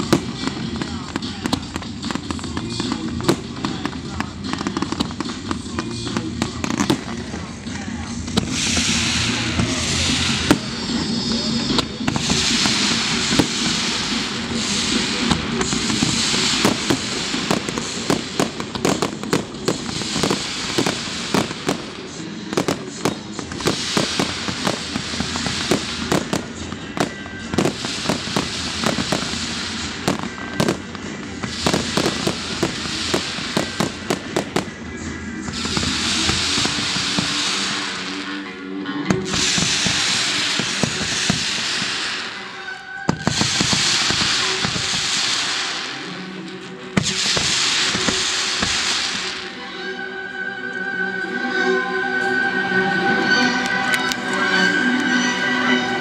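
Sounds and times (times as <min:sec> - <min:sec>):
fireworks cracking and popping: 0:00.0 - 0:49.6
spark fountains hissing: 0:00.0 - 0:49.6.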